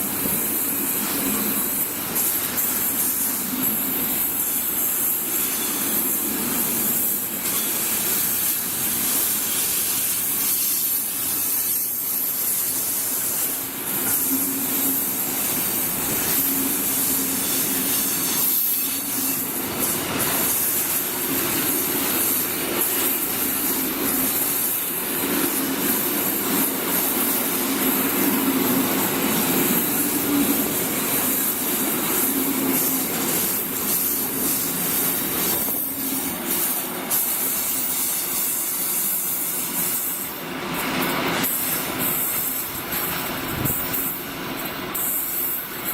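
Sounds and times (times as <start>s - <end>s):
train hiss: 0.0s - 45.9s.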